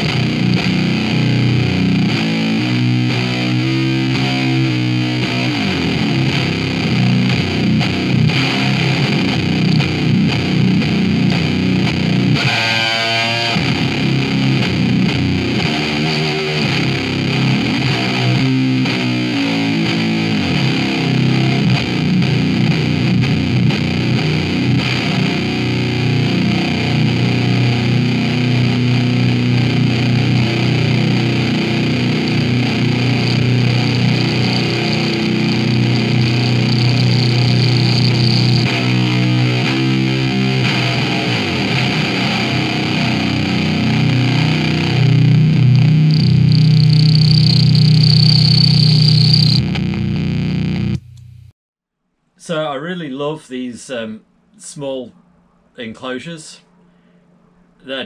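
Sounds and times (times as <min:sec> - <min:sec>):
distorted electric guitar: 0:00.0 - 0:51.5.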